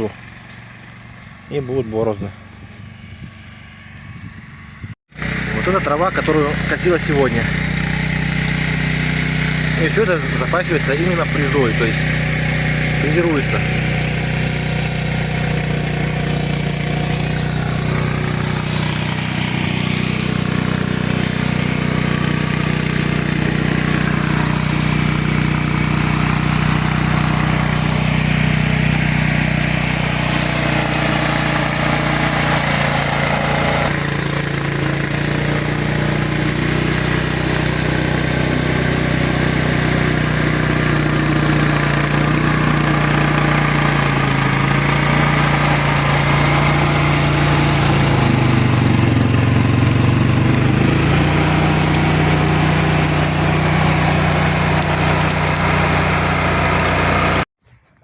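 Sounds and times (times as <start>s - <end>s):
tractor engine running under load: 0.0s - 57.4s
rotary tiller churning soil: 0.0s - 58.0s.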